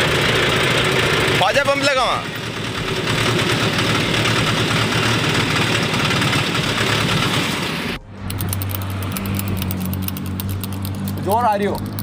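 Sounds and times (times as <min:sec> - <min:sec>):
tractor engine running: 0:00.0 - 0:12.0
wind and road noise: 0:02.3 - 0:12.0.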